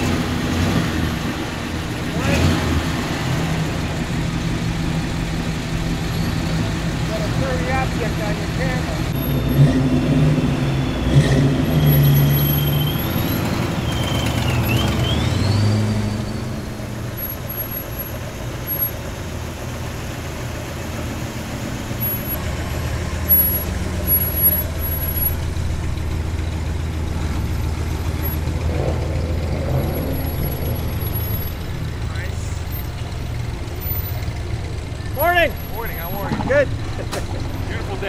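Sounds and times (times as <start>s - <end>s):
car engines driving past: 0.0s - 38.0s
low engine rumble: 0.0s - 38.0s.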